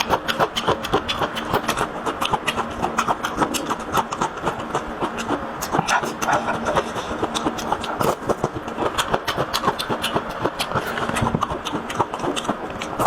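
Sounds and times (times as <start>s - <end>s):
chewing and mouth smacking: 0.0s - 13.0s
faint steady hum: 0.0s - 13.0s.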